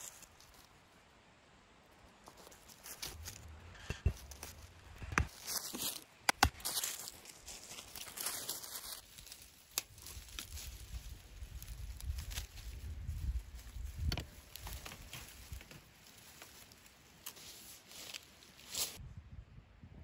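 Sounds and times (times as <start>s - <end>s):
footsteps crunching dry leaves: 0.0s - 0.8s, 2.2s - 19.0s.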